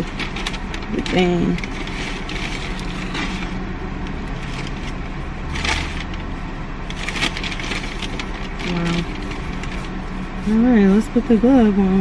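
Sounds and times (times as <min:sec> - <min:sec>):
paper and plastic packaging crinkling: 0:00.0 - 0:06.3, 0:06.9 - 0:11.2
car hum: 0:00.0 - 0:12.0.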